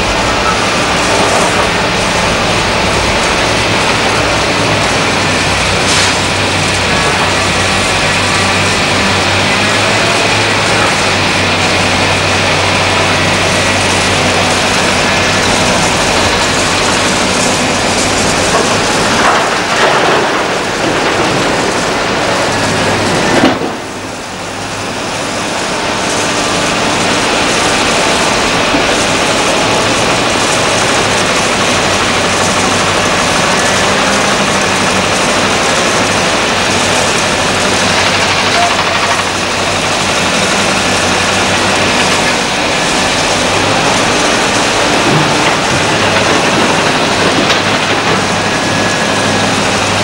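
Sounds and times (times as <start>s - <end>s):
diesel construction machinery running: 0.0s - 50.0s.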